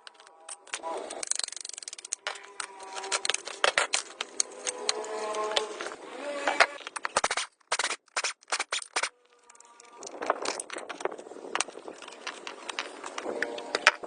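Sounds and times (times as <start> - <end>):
sharp clicks and scrapes: 0.0 - 14.0.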